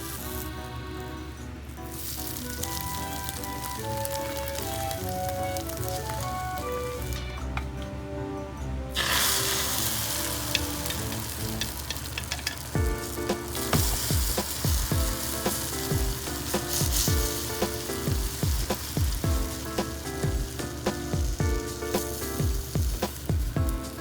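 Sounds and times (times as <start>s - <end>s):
food sizzling in hot oil: 0.0s - 7.4s, 8.9s - 24.0s
oil crackling pops: 1.9s - 7.4s, 9.0s - 23.8s.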